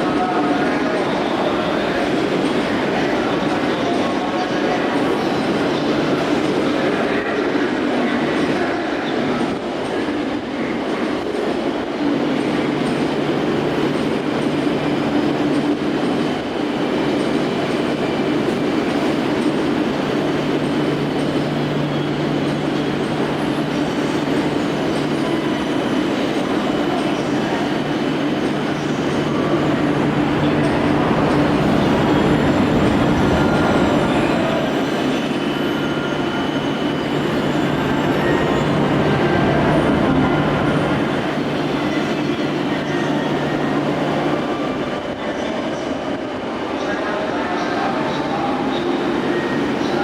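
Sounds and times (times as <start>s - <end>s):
train rolling with electric hum: 0.0s - 50.0s.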